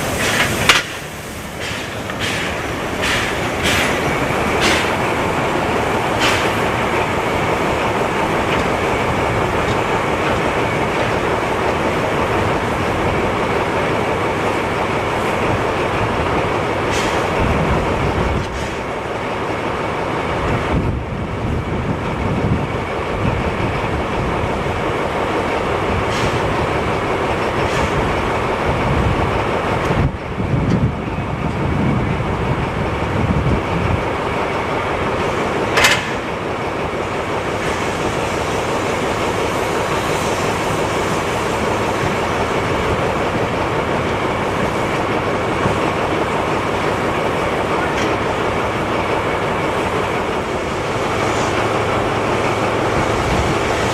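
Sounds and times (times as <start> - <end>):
wheels clattering on rails: 0.0 - 20.8, 21.9 - 53.9
steam locomotive hiss and rumble: 0.0 - 53.9.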